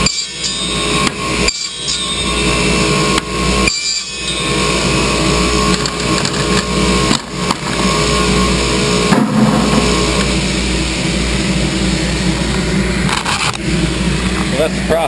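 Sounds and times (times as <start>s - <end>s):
saw motor hum and whine: 0.0s - 15.0s.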